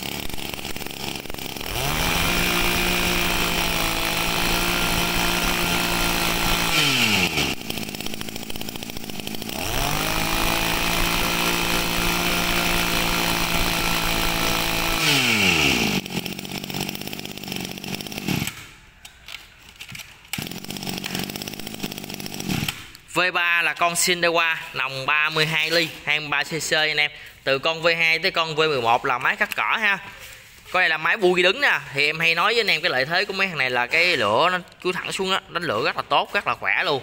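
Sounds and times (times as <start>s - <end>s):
brush cutter engine revving: 0.0s - 18.8s, 19.9s - 23.9s, 24.6s - 31.5s.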